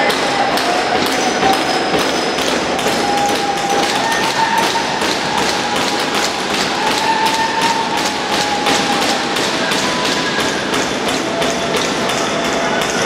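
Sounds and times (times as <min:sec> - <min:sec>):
lacrosse sticks clacking: 0:00.0 - 0:13.0.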